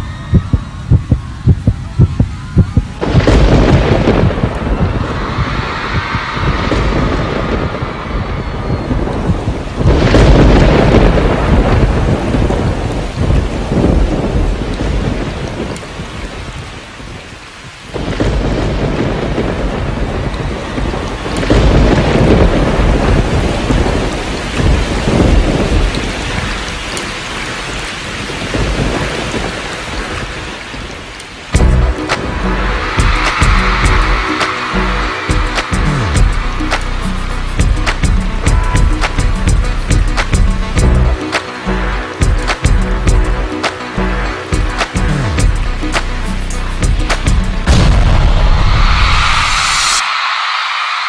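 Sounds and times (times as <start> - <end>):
rolling thunder: 0.0 - 41.3, 42.2 - 43.6, 44.5 - 51.0
heavy steady rain: 0.0 - 51.0.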